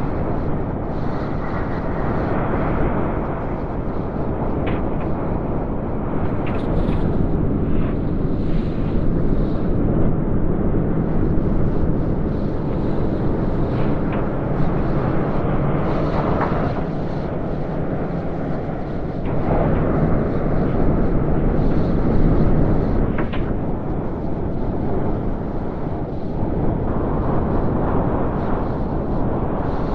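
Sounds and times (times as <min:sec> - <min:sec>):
storm wind rushing: 0:00.0 - 0:29.9.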